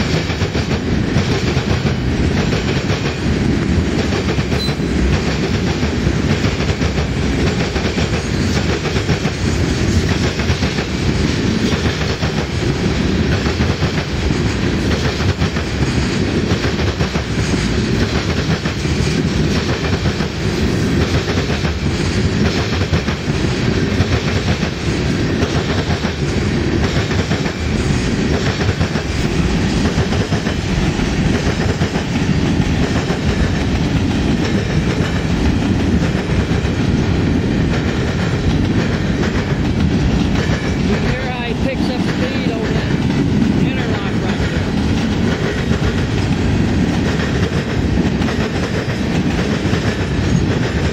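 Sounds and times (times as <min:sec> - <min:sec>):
train wheels rolling on rail: 0:00.0 - 0:50.9.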